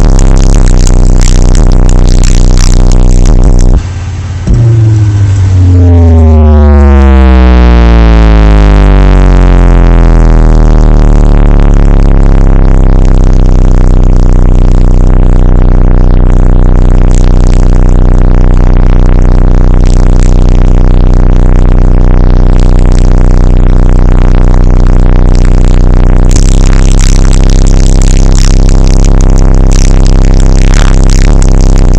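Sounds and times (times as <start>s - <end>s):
distorted deep bass tone: 0.0s - 31.9s.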